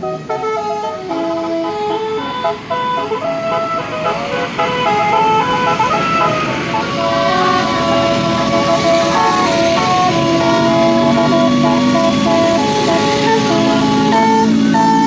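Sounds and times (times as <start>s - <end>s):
bus musical air horn: 0.0s - 15.0s
rush of noise: 0.0s - 15.0s.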